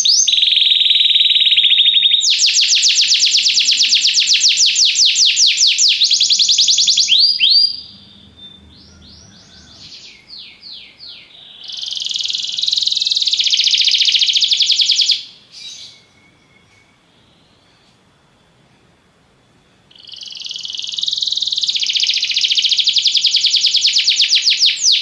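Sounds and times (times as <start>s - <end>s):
canary singing: 0.0s - 17.9s, 19.9s - 25.0s.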